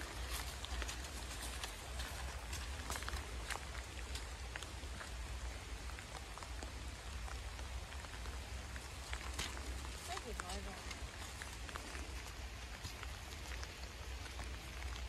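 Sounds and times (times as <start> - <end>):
heavy rain falling: 0.0 - 15.0
raindrops ticking close by: 0.0 - 15.0.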